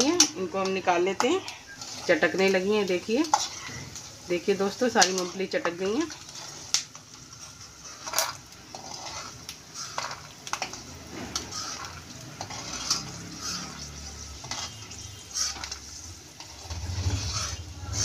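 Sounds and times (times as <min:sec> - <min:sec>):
metal spoon scraping and clinking pan: 0:00.0 - 0:04.0, 0:04.9 - 0:18.0
peanuts sizzling in hot oil: 0:00.0 - 0:18.0.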